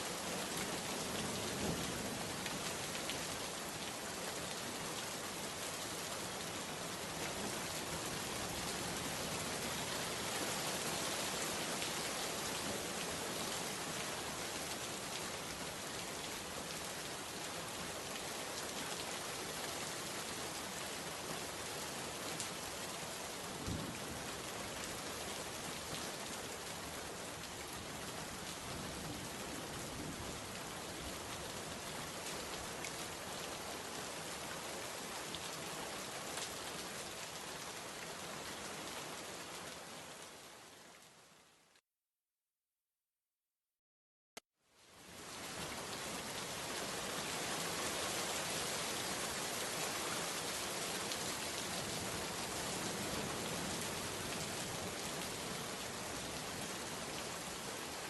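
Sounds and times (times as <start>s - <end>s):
steady rain: 0.0s - 41.8s, 44.6s - 58.0s.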